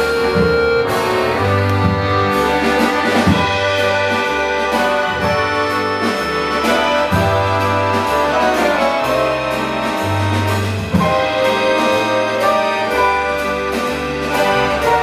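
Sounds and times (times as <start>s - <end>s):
accordion chords: 0.0s - 15.0s
bass line: 0.0s - 15.0s
light drum beat: 0.0s - 15.0s
piano: 0.0s - 15.0s.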